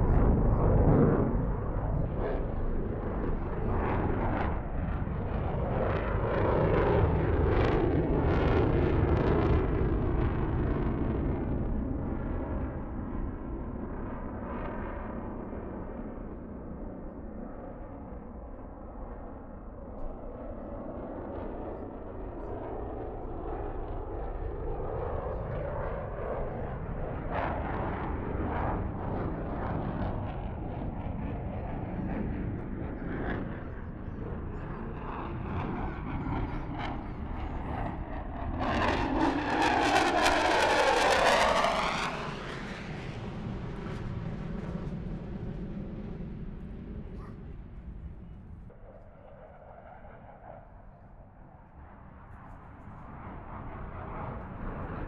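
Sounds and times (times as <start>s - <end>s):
distant jet engine roar: 0.0s - 55.0s.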